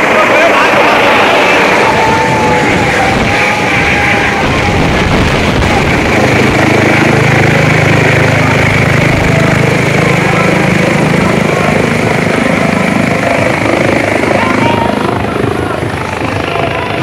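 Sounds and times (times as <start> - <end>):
helicopter rotor beat: 0.0 - 17.0
turbine engine whine: 0.0 - 17.0.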